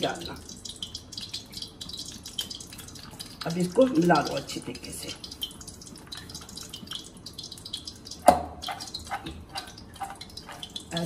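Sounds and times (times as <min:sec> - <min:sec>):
hands mixing wet corn in bowl: 0:00.0 - 0:11.0.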